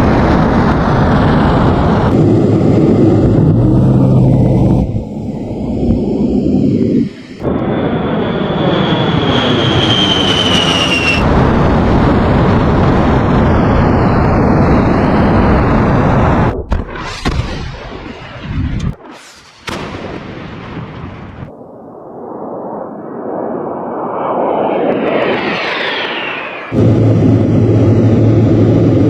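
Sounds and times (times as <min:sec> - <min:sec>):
explosions rumbling: 0:00.0 - 0:24.0, 0:24.7 - 0:29.0
jet engine whine: 0:00.0 - 0:29.0.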